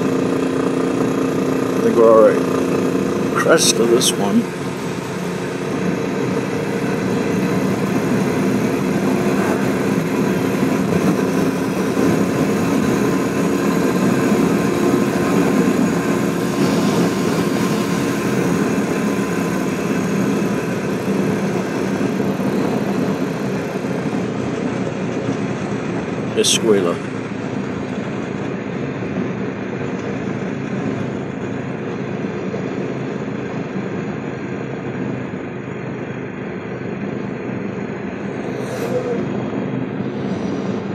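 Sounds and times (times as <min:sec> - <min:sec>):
motorcycle engine running: 0:00.0 - 0:40.9
wind rush on microphone: 0:04.5 - 0:26.4, 0:27.1 - 0:40.9.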